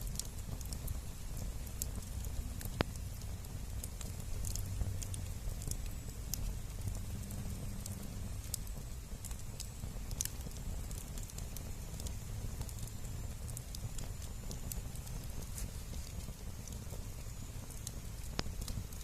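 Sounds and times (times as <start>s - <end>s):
bonfire crackling and popping: 0.0s - 19.0s
low steady rumble: 0.0s - 19.0s.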